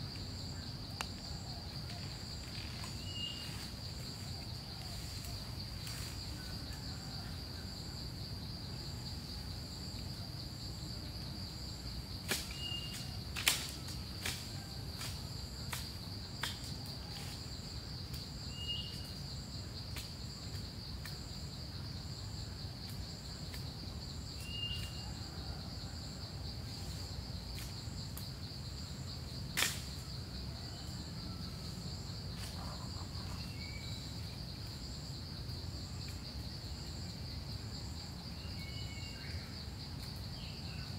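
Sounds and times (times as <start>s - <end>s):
insect drone: 0.0s - 40.9s
pulsing insect trill: 0.0s - 40.9s.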